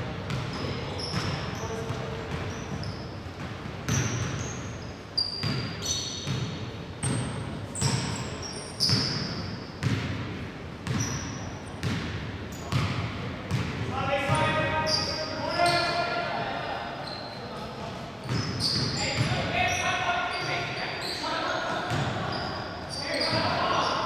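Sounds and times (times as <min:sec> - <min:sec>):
murmur of hall: 0:00.0 - 0:24.0
sneakers squeaking on floor: 0:00.2 - 0:10.2, 0:10.8 - 0:16.2, 0:16.9 - 0:24.0.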